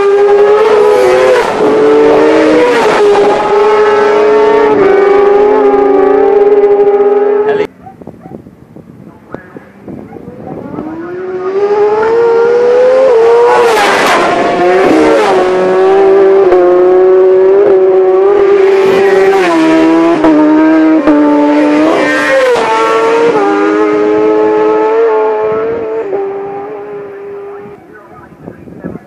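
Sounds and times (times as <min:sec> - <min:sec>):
motorcycles passing at high revs: 0:00.0 - 0:29.0.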